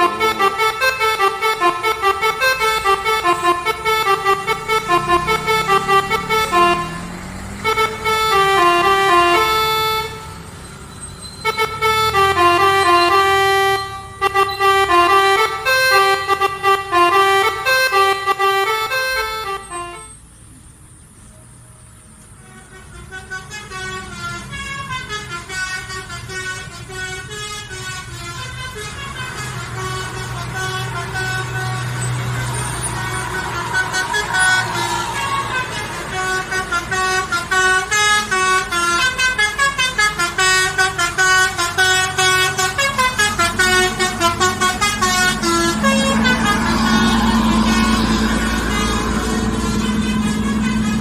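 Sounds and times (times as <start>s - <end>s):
musical bus horn melody: 0.0s - 20.2s, 22.4s - 51.0s.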